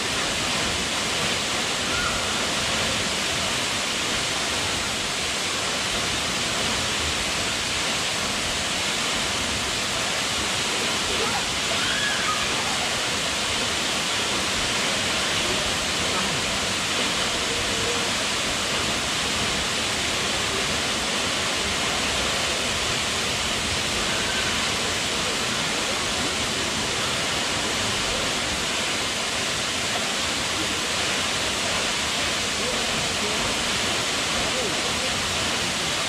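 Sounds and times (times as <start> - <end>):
faint voices: 0.0 - 36.0
waterfall rushing: 0.0 - 36.0.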